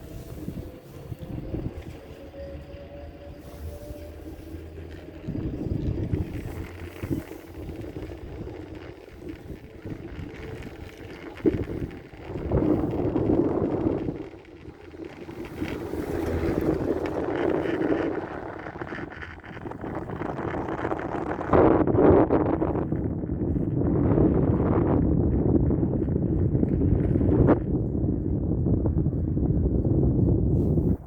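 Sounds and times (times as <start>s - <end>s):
chairlift running rumble: 0.0s - 31.0s
wind on microphone: 0.0s - 31.0s.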